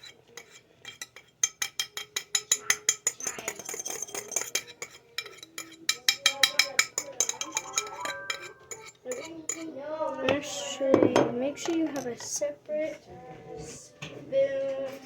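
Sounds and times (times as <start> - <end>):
metal whisk clinking against bowl: 0.0 - 12.4.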